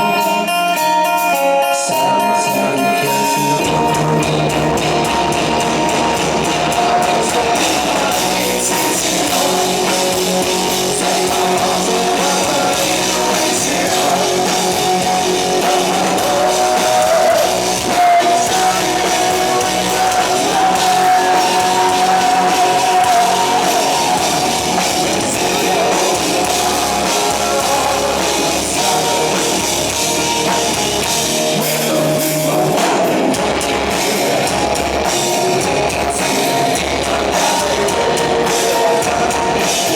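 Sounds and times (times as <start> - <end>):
hard rock band playing: 0.0 - 39.9.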